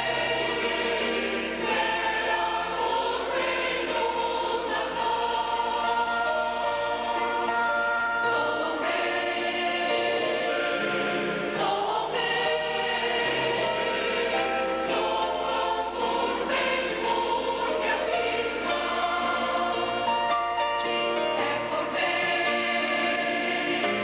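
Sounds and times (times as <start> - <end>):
mixed choir singing in harmony: 0.0 - 24.0.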